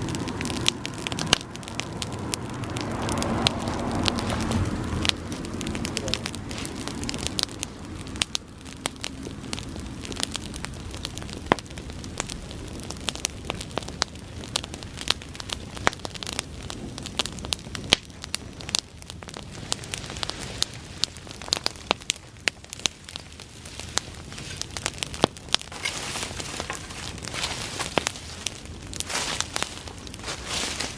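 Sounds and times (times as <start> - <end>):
fire crackling and popping: 0.0 - 30.9
fire hissing: 0.0 - 30.9.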